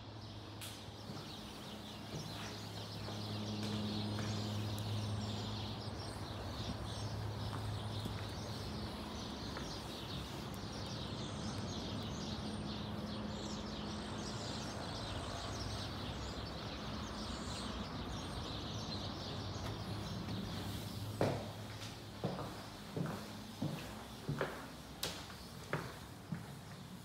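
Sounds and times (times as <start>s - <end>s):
low background hum: 0.0s - 27.0s
small birds chirping: 0.1s - 27.0s.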